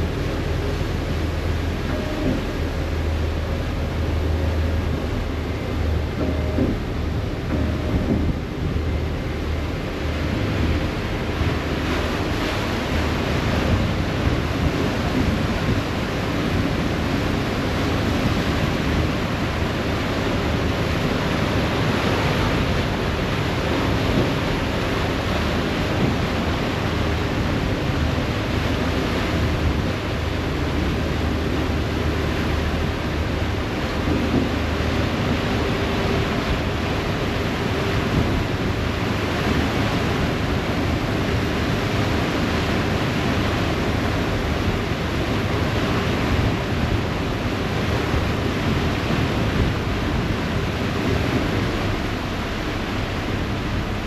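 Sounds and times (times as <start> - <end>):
low engine drone: 0.0 - 54.0
water rushing along hull: 0.0 - 54.0
wind on microphone: 4.2 - 54.0.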